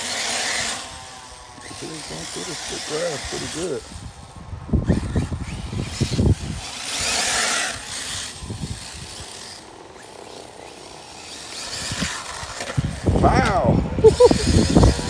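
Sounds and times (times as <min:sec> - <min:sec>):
rc car motor and tyres rushing: 0:00.0 - 0:15.0
wind buffeting microphone: 0:00.8 - 0:15.0.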